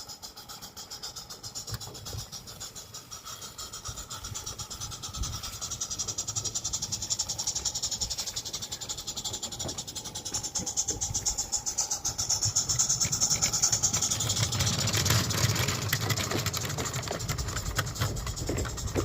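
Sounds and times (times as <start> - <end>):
steam hissing: 0.0 - 19.0
steam locomotive chuffing: 0.0 - 19.0.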